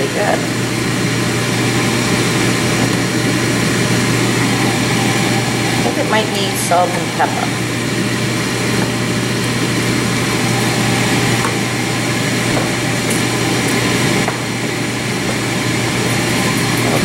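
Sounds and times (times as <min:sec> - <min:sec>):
fan whirring: 0:00.0 - 0:17.0.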